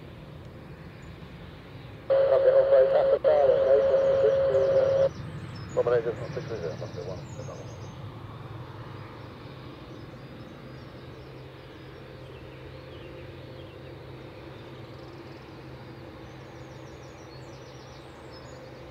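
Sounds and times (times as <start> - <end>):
jet engines idling: 0.0 - 18.9
faint birds chirping: 0.6 - 18.9.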